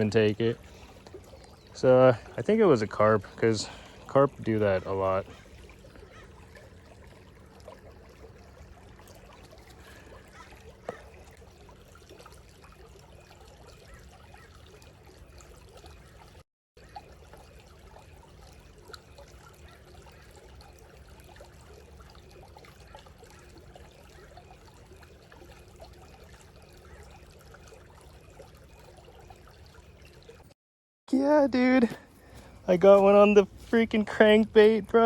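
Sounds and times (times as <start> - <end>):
creek water trickling: 0.0 - 35.0.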